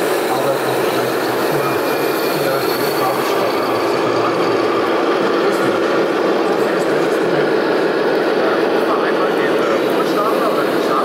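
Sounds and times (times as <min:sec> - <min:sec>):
exhibition hall din: 0:00.0 - 0:11.0
simulated diesel engine: 0:00.0 - 0:11.0.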